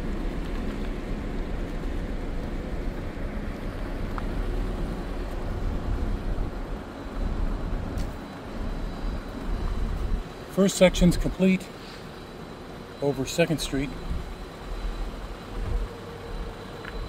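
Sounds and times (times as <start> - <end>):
low rumble of vehicle: 0.0 - 17.0.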